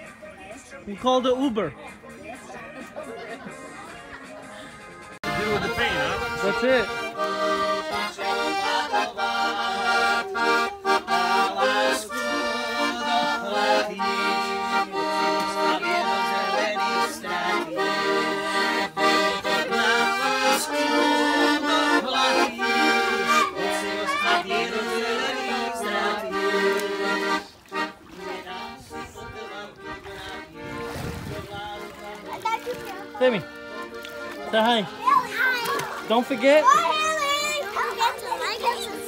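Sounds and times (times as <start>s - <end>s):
piano accordion playing: 5.1s - 39.0s.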